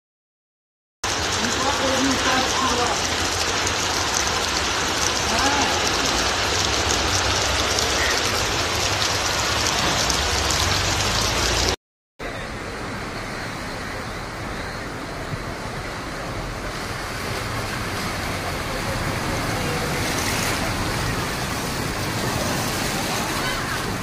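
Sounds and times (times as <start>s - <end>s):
heavy rain: 1.0s - 24.0s
rushing floodwater: 1.0s - 24.0s
vehicle wading through floodwater: 1.1s - 24.0s.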